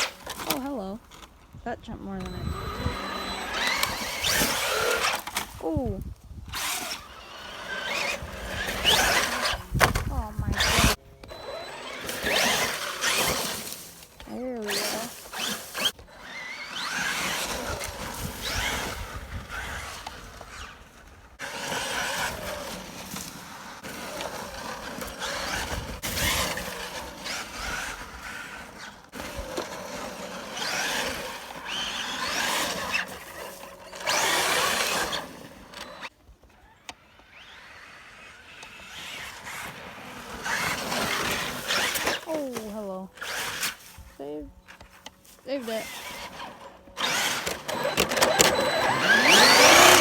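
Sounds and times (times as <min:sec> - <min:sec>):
electric rc car motor whining: 0:00.0 - 0:50.0
tyres scrabbling on dirt: 0:00.0 - 0:50.0.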